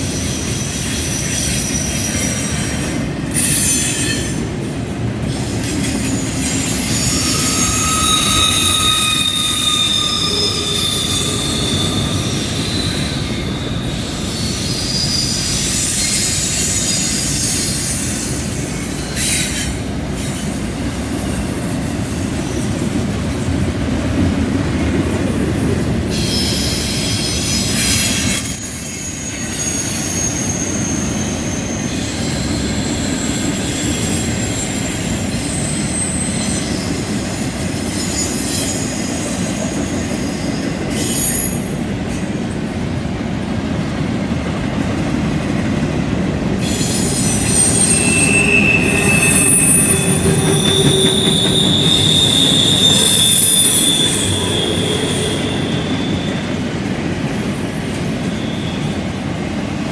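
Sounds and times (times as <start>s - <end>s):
low rumble of train: 0.0s - 59.9s
train wheels squealing on rails: 0.0s - 59.9s.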